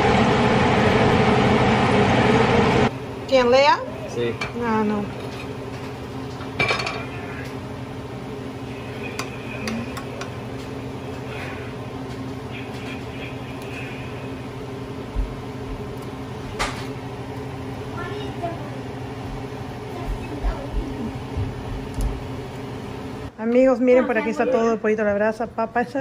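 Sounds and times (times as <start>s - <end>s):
low hum: 0.0s - 23.4s.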